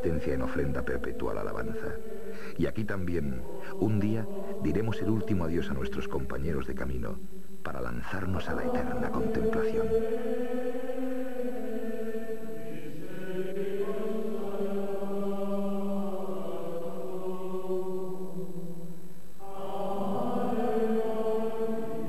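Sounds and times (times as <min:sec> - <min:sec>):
voices singing plainchant: 0:00.0 - 0:06.9, 0:07.7 - 0:22.0.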